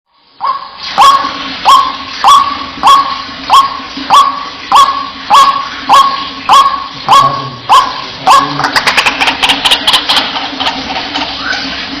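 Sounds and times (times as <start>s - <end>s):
waterhen wak-wak call: 0.4s - 12.0s.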